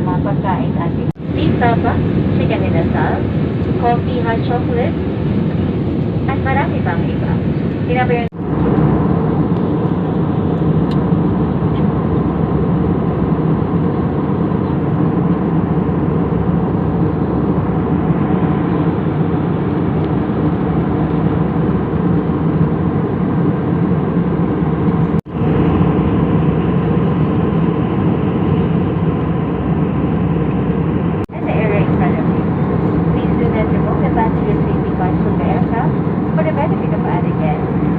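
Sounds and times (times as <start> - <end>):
airliner cabin engine and airflow noise: 0.0 - 37.9.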